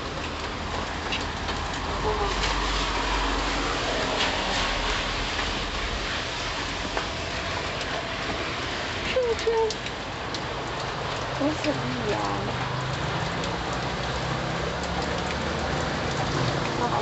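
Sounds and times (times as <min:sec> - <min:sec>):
heavy rain hissing: 0:00.0 - 0:17.0
street traffic: 0:00.0 - 0:17.0.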